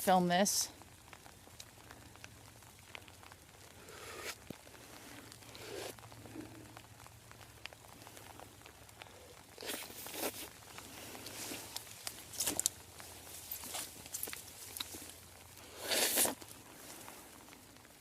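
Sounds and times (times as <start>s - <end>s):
light ticks and drips: 0.0s - 15.7s, 16.4s - 18.0s
wet grass rustling: 0.8s - 18.0s.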